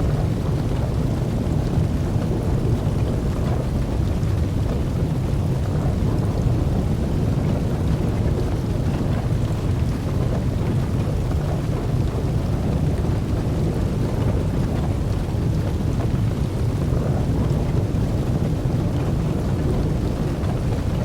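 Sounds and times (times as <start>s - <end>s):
fire crackling: 0.0s - 21.0s
fire roaring: 0.0s - 21.0s.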